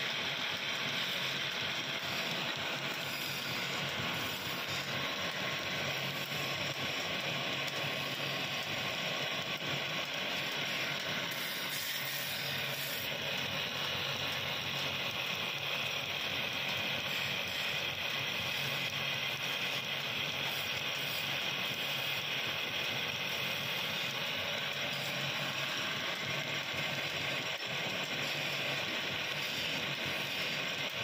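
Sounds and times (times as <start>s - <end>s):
wood lathe running: 0.5s - 31.0s.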